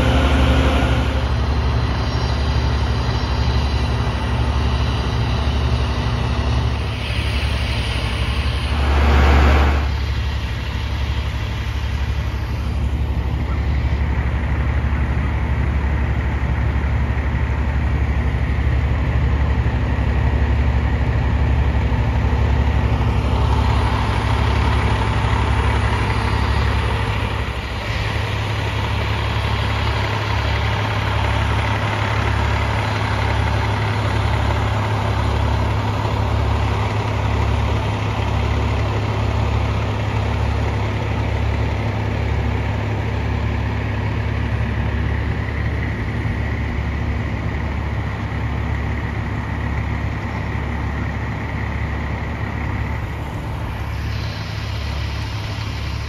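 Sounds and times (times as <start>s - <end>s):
diesel engines idling: 0.0s - 56.0s.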